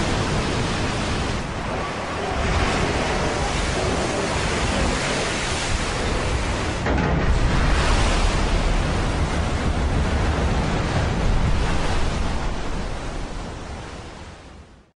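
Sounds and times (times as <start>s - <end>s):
surf: 0.0s - 14.8s
wind: 0.0s - 14.9s.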